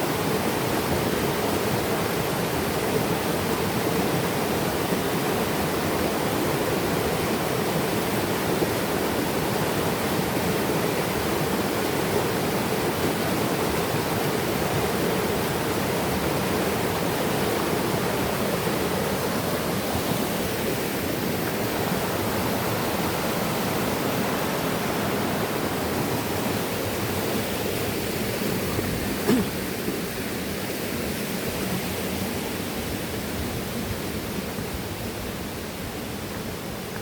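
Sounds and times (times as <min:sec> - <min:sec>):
river water over rocks: 0:00.0 - 0:37.0.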